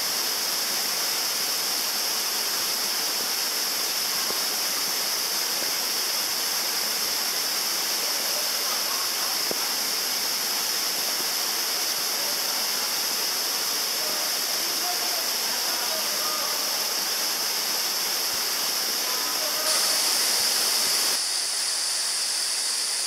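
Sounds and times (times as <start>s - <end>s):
stream cascade rushing over rock: 0.0s - 23.0s.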